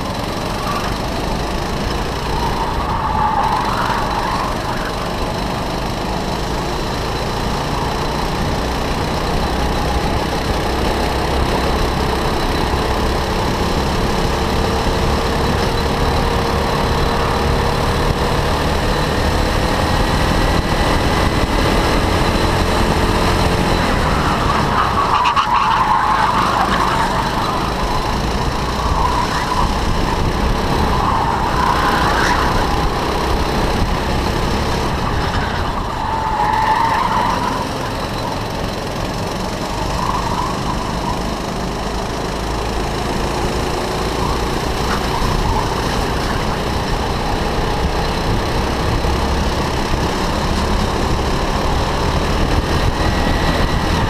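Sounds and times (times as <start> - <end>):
go-kart engine at full throttle: 0.0 - 54.0.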